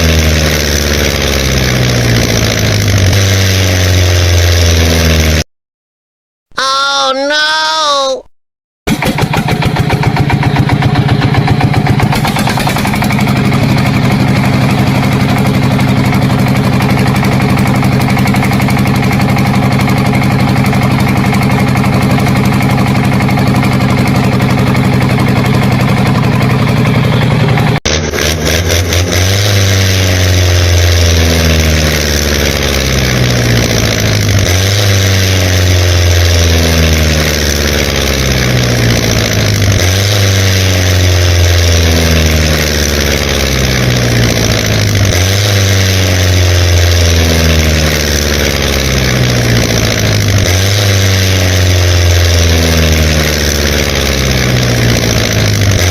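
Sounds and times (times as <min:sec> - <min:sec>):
engine running steadily: 0:00.0 - 0:05.4, 0:08.9 - 0:55.9
engine revving: 0:00.0 - 0:05.5, 0:08.9 - 0:55.9.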